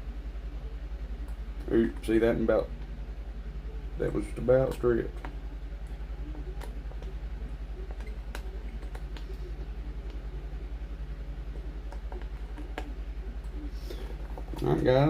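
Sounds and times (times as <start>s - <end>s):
pulsing mechanical hum: 0.0s - 15.0s.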